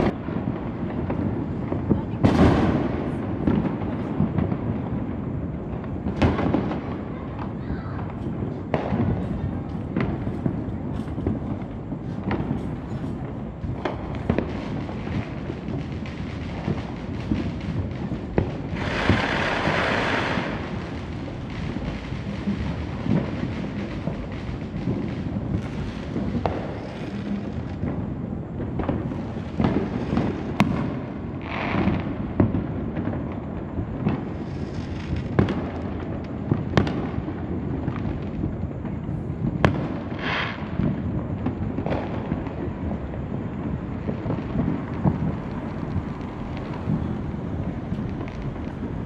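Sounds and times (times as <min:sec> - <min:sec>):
nearby firework cracks: 0:00.0 - 0:05.0, 0:05.7 - 0:38.5, 0:39.4 - 0:49.0
distant fireworks rumble: 0:00.0 - 0:49.0
firework hiss and crackle: 0:00.0 - 0:49.0.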